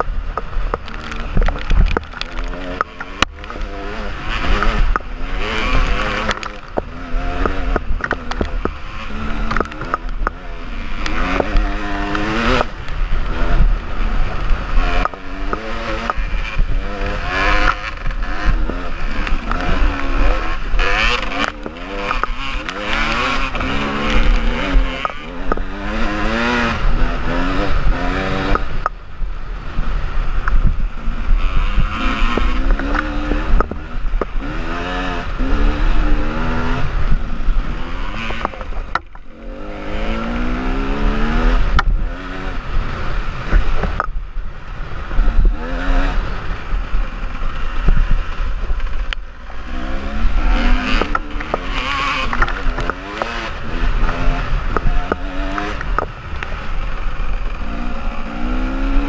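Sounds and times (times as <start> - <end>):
motorcycle engine revving: 0.0 - 59.0
wind rumble: 0.0 - 59.0.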